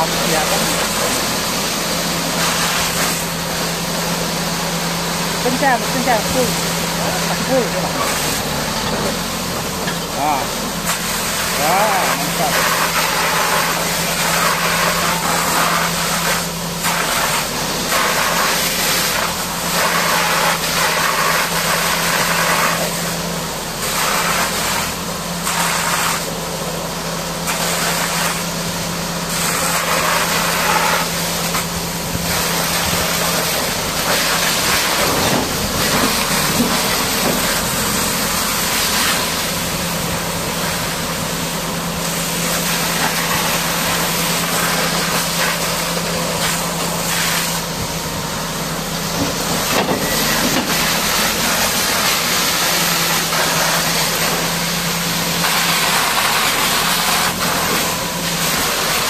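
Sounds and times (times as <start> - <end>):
high-pressure water jet hissing: 0.0 - 59.0
steady engine hum: 0.0 - 59.0.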